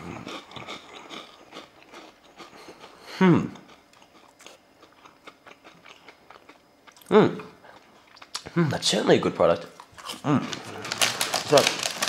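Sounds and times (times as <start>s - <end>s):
person chewing crunchy snack: 0.0s - 7.1s, 7.7s - 8.6s, 9.8s - 12.0s.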